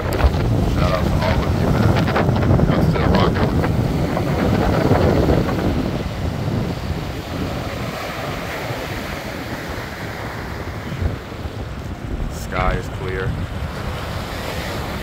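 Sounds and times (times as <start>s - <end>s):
small waves breaking on beach: 0.0s - 15.0s
wind rumbling on microphone: 0.0s - 15.0s.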